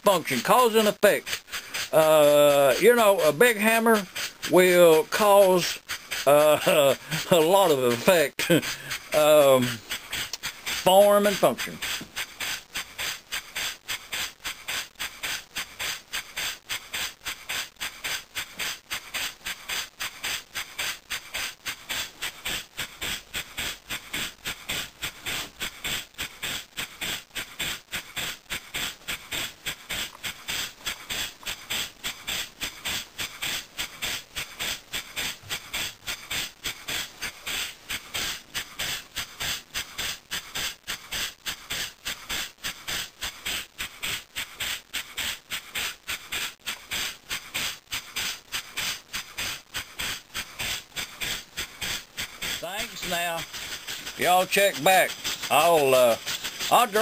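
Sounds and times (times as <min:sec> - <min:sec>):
model steam engine hissing puffs: 0:00.0 - 0:57.0.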